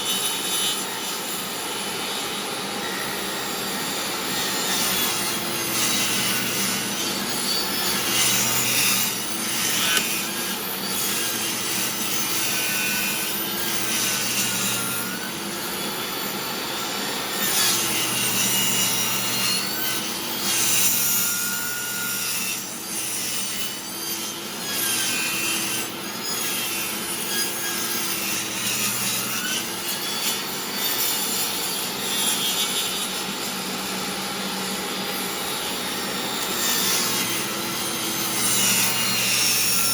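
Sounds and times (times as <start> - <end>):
saw blade cutting wood: 0.0 - 39.9
table saw motor hum: 0.0 - 39.9.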